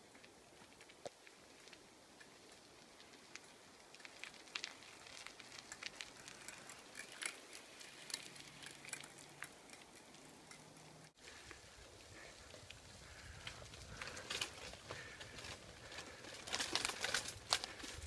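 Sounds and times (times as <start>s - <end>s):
bicycle tyres rolling on gravel: 0.0s - 18.0s.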